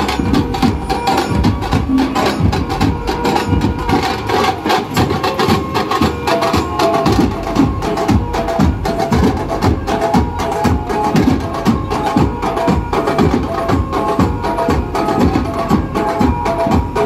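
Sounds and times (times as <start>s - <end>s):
bass drums beating: 0.0s - 17.0s
street band playing: 0.0s - 17.0s.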